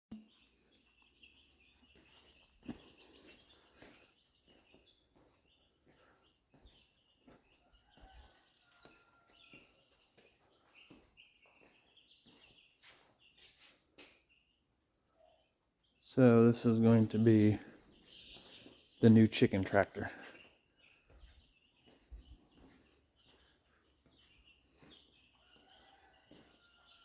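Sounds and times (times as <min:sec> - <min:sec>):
bird chirping: 0:00.1 - 0:27.0.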